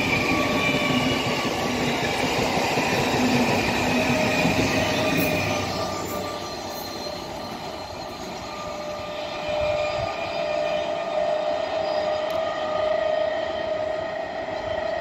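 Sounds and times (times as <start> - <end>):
electric train pulling away: 0.0 - 15.0.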